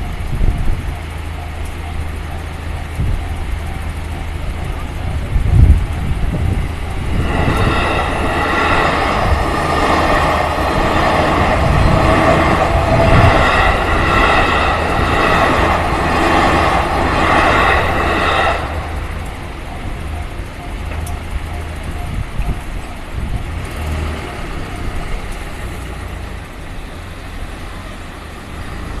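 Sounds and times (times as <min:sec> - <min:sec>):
level-crossing warning bell: 0:00.0 - 0:29.0
low vehicle rumble: 0:00.0 - 0:29.0.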